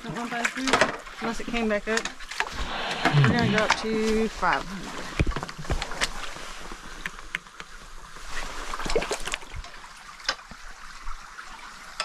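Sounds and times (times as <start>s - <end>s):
shallow stream water running: 0.0s - 12.0s.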